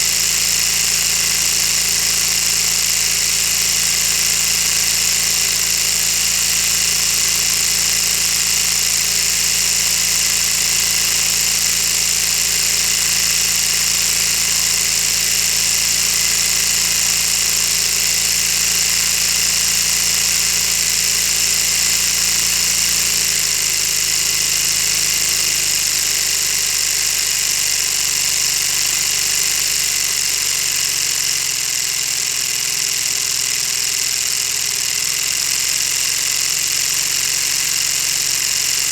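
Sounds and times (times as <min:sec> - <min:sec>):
plastic engine model whirring clatter: 0:00.0 - 0:38.9.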